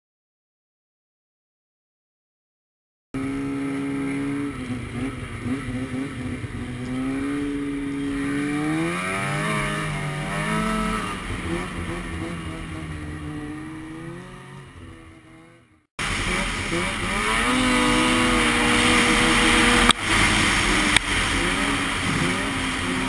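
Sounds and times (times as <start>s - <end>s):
snowmobile engine running: 3.2s - 23.0s.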